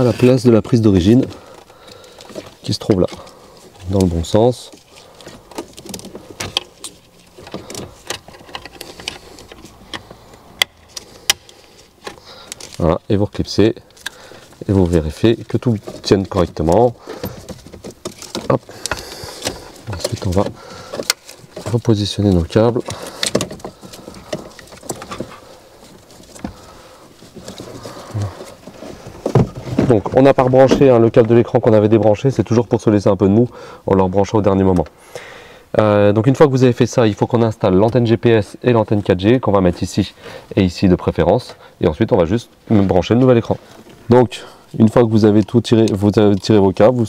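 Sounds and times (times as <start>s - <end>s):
cables rustling against plastic: 0.0s - 32.7s, 36.3s - 47.0s.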